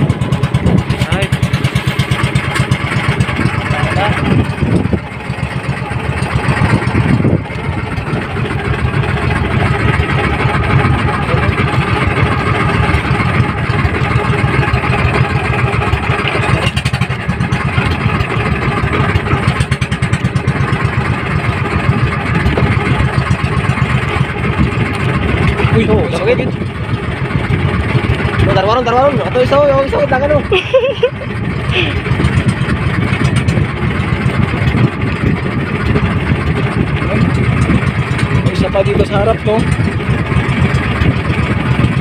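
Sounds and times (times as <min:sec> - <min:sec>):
boat engine chugging: 0:00.0 - 0:42.0.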